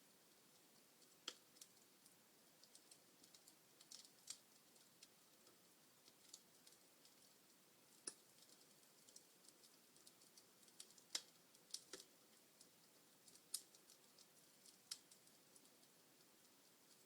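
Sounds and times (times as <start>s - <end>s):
faint fire hiss: 0.0s - 17.0s
wood fire crackling: 0.0s - 17.0s.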